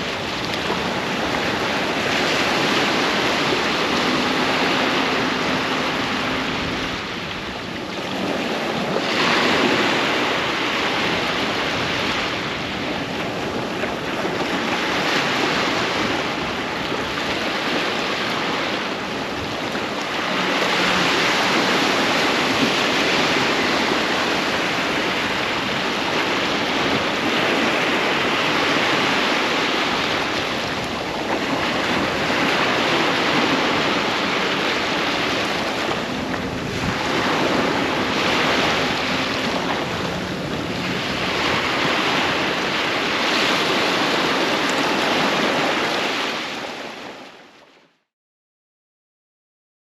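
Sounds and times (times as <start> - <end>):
wind on microphone: 0.0 - 47.5
waves breaking on a beach: 0.0 - 48.0.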